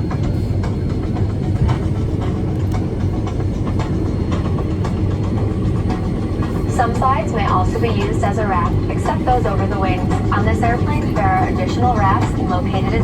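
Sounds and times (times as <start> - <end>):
aircraft cabin low rumble: 0.0 - 13.0.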